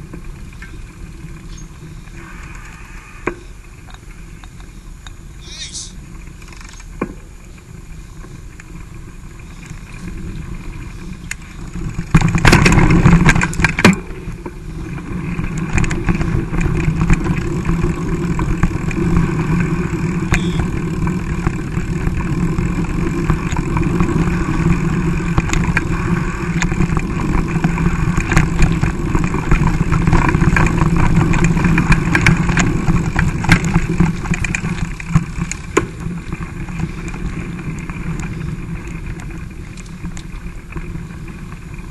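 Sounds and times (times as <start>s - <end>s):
bike rattling over rough trail: 0.0s - 41.9s.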